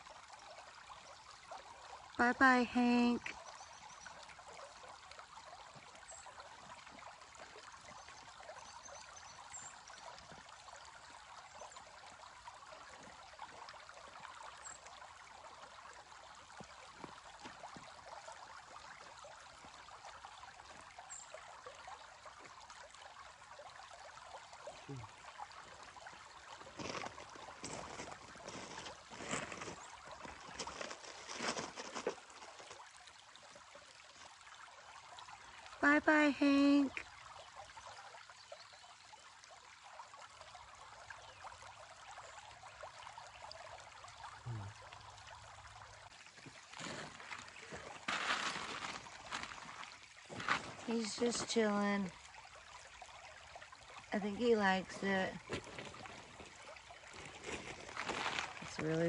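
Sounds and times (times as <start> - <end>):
creek trickling over rocks: 0.0 - 59.0.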